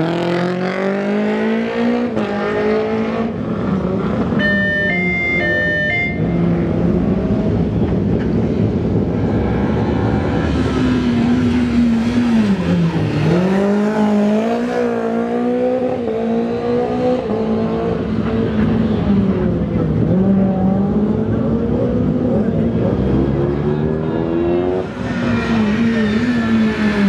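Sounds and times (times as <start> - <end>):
rally car engine at high revs: 0.0 - 4.7, 6.2 - 27.0.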